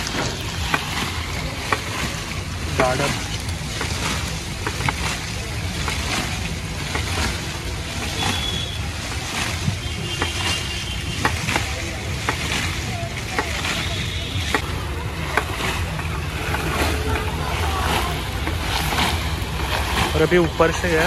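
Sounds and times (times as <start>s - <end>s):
low rumble of street noise: 0.0s - 21.0s.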